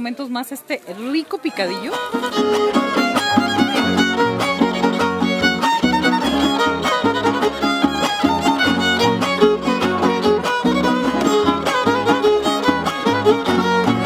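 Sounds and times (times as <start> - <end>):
fiddle tune: 1.0 - 14.0
bass line: 2.1 - 14.0.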